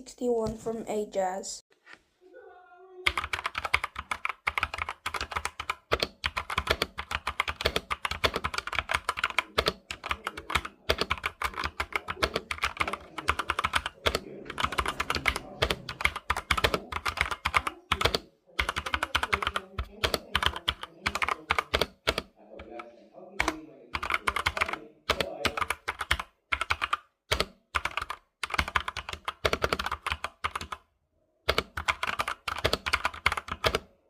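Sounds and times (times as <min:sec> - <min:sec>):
mechanical keyboard typing: 0:03.0 - 0:22.8, 0:23.4 - 0:30.8, 0:31.5 - 0:33.9.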